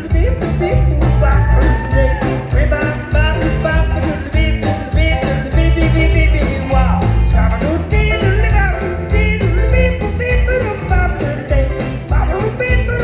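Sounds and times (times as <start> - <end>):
bass guitar: 0.0 - 13.0
drums: 0.0 - 13.0.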